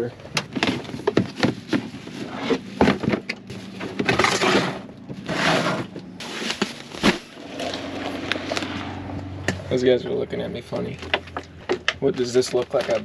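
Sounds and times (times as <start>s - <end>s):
knocks and scrapes of gear: 0.4s - 9.8s, 10.7s - 13.0s.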